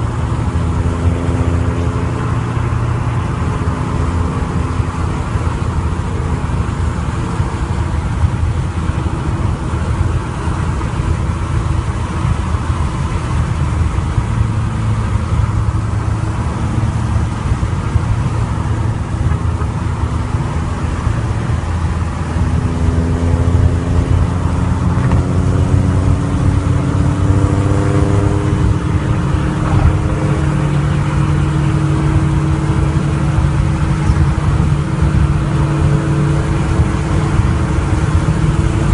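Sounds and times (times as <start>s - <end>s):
car engine running: 0.0s - 38.9s
road rumble: 0.0s - 38.9s.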